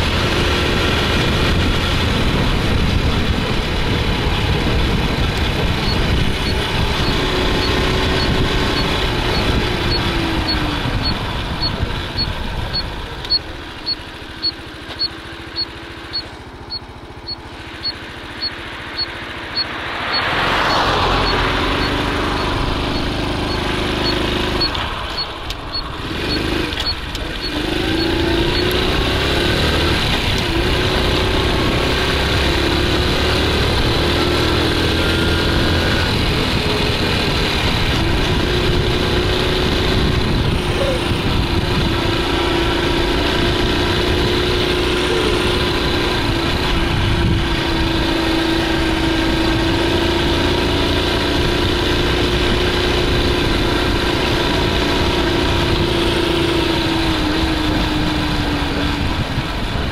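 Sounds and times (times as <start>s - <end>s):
wind rumble on microphone: 0.0s - 14.5s, 20.2s - 59.9s
motorbike engine running: 0.0s - 59.9s.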